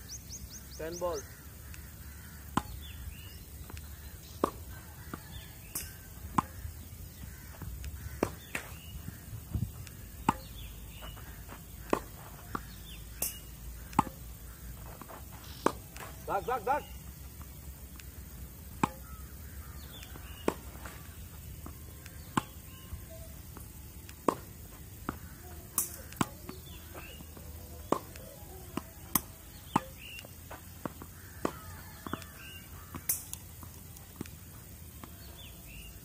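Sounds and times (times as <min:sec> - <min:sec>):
racquet hitting tennis balls: 0:01.6 - 0:35.9.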